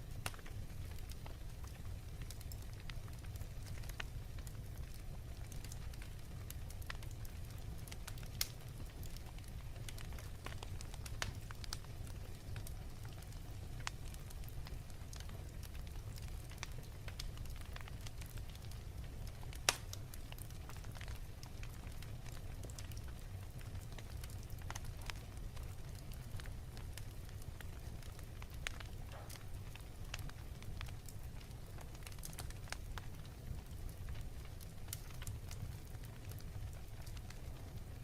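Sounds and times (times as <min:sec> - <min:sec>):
fire popping and crackling: 0:00.0 - 0:38.0
fire rumbling: 0:00.0 - 0:38.0.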